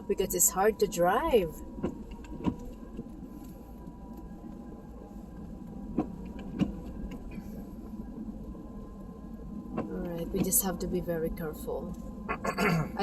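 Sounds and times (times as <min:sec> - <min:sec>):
low vehicle cabin rumble: 0:00.0 - 0:13.0.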